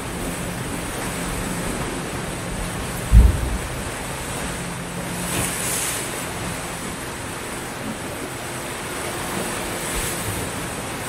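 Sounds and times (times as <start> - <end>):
small waves washing up a beach: 0.0 - 11.0.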